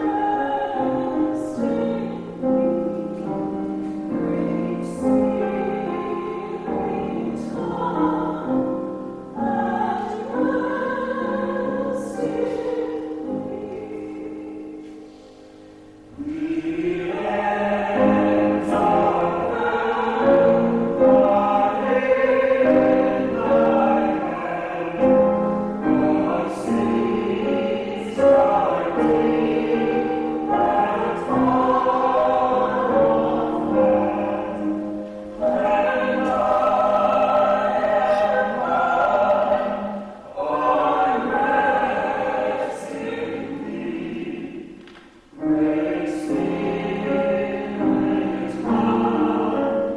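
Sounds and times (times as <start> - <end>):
vocal quartet singing in harmony: 0.0 - 49.9.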